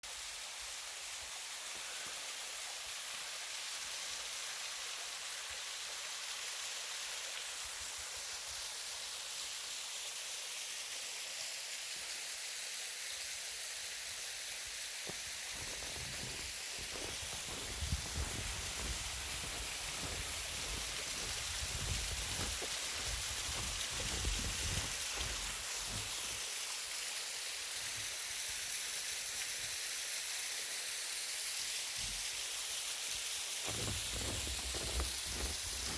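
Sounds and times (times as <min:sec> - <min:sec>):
small waterfall splashing: 0:00.0 - 0:35.9.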